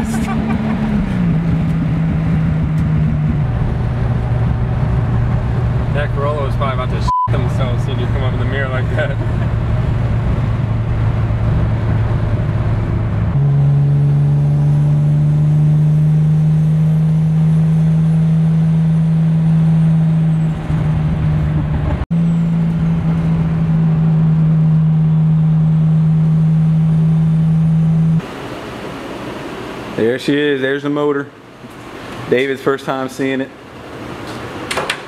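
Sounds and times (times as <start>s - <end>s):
car engine droning from inside cabin: 0.0s - 29.5s.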